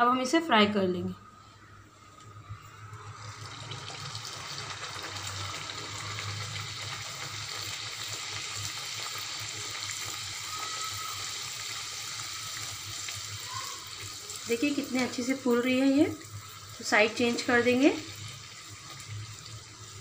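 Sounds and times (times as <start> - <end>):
dough sizzling in hot oil: 2.3 - 20.0.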